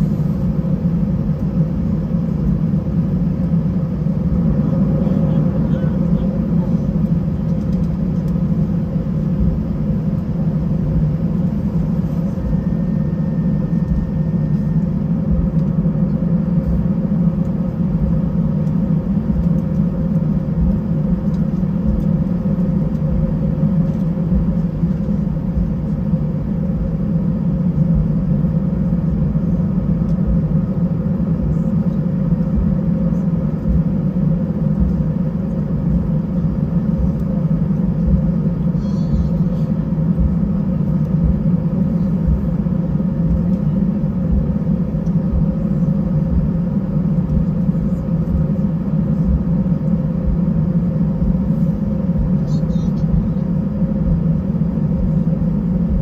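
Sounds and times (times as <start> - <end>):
aircraft cabin rumble and hum: 0.0 - 56.0.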